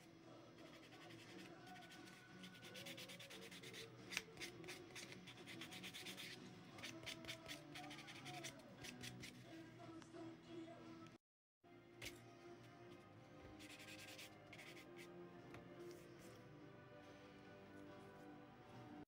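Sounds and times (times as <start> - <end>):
quiet background music: 0.0 - 19.0.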